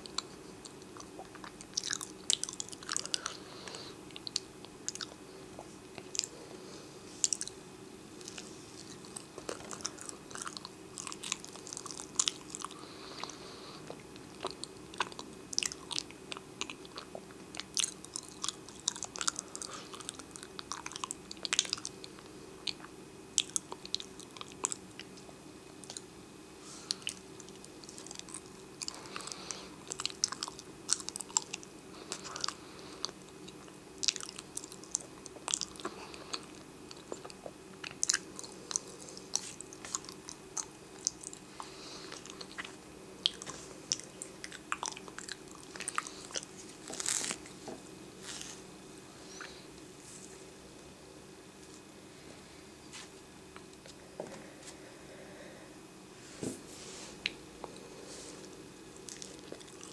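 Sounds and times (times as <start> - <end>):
person chewing with crackles: 0.0 - 55.0, 56.9 - 59.9
faint low hum: 0.0 - 59.9.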